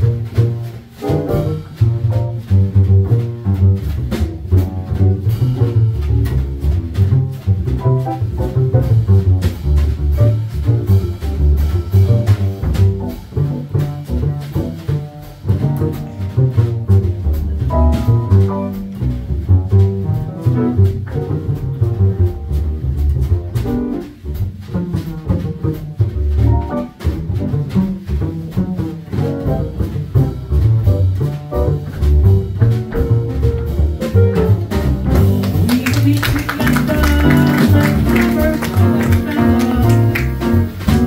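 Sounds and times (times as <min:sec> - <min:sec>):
double bass plucked notes: 0:00.0 - 0:41.0.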